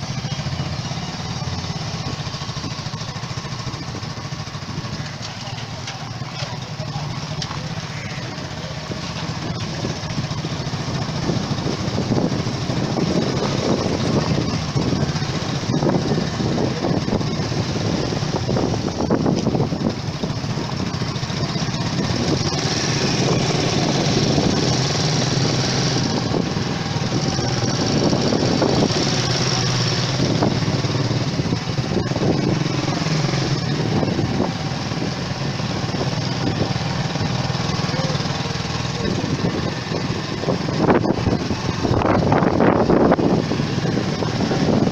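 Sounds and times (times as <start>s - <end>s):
small motorcycle engine running: 0.0s - 44.9s.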